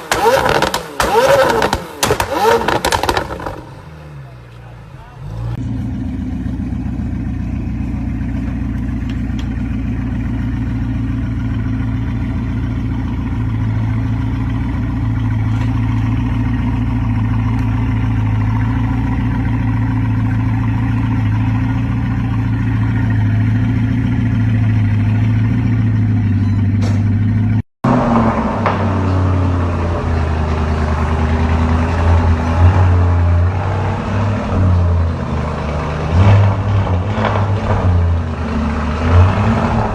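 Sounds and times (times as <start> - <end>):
sports car engine rumbling: 0.0 - 39.9
car engine running unevenly: 0.1 - 33.6.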